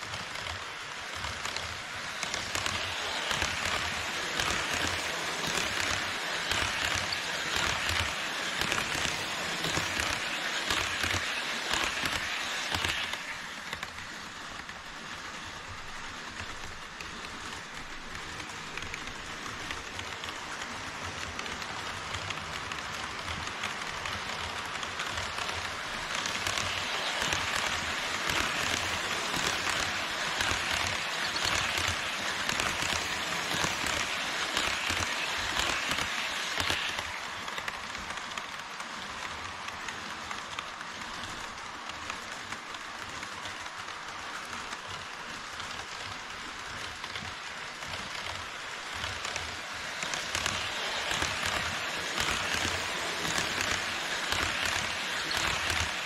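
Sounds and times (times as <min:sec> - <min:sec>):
model train wheels clattering on rails: 0:00.0 - 0:56.0.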